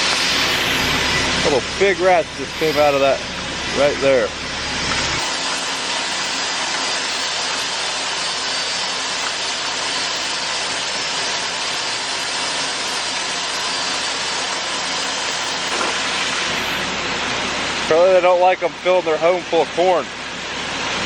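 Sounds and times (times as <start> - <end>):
grain handling machinery running: 0.0 - 21.0.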